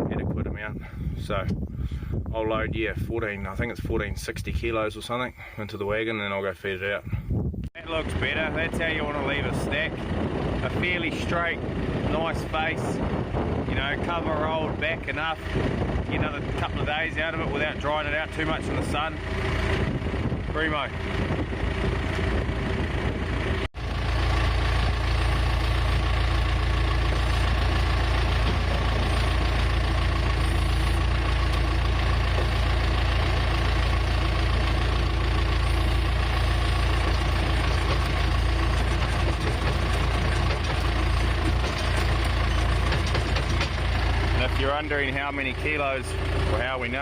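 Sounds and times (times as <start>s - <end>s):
tractor engine droning: 0.0s - 47.0s.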